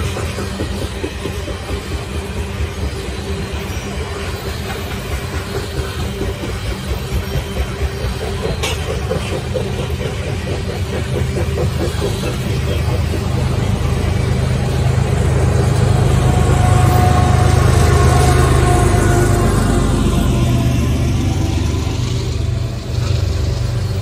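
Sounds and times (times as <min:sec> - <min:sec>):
diesel locomotive drone: 0:00.0 - 0:24.0
train wheels clattering: 0:00.0 - 0:24.0.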